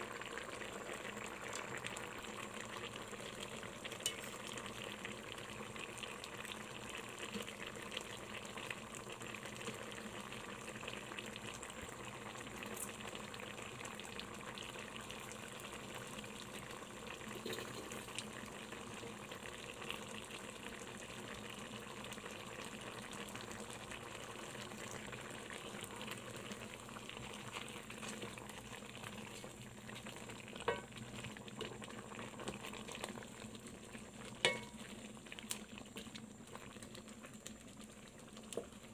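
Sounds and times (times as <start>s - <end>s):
sauce bubbling and sizzling in a pan: 0.0s - 38.9s.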